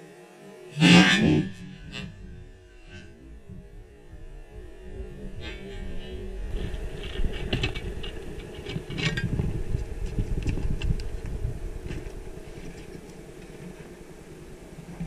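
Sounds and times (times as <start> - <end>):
low underwater rumble: 1.2 - 15.0.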